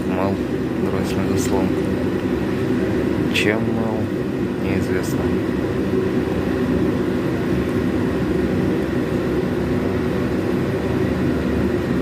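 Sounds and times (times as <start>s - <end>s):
machinery drone: 0.0s - 12.0s.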